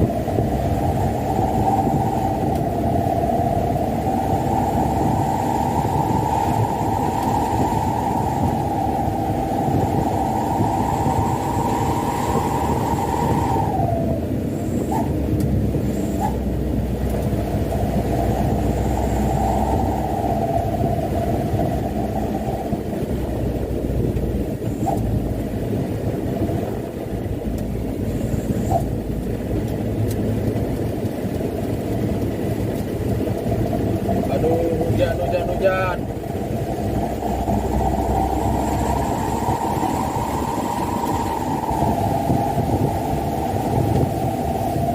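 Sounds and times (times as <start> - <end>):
engine whine: 0.0 - 44.9
truck engine and road rumble: 0.0 - 44.9.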